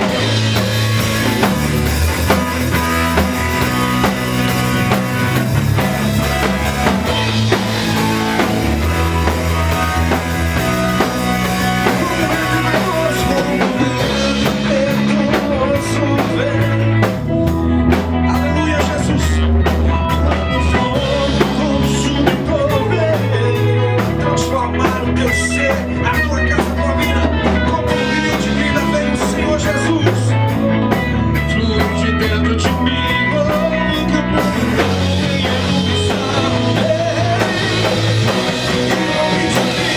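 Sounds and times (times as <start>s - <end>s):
live band playing upbeat song: 0.0s - 39.9s.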